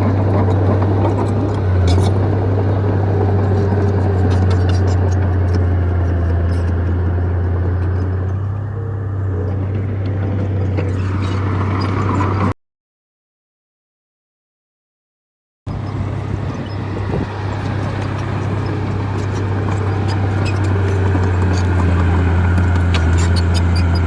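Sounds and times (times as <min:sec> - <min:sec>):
bulldozer diesel engine droning: 0:00.0 - 0:12.5, 0:15.7 - 0:24.0.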